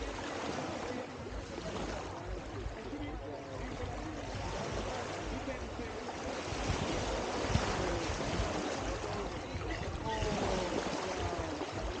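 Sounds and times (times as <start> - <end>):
faint voices chatting: 0.0 - 12.0
surf washing: 0.0 - 12.0
wind noise: 1.2 - 12.0.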